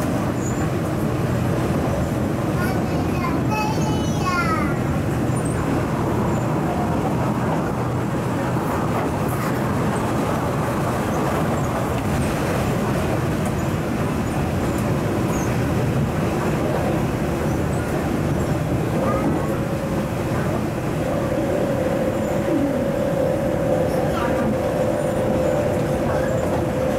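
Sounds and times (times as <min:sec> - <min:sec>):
train running noise with low hum: 0:00.0 - 0:26.9.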